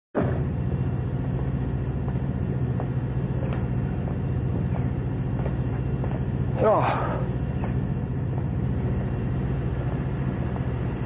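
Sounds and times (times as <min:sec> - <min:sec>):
diesel locomotive engine idling: 0:00.4 - 0:11.0.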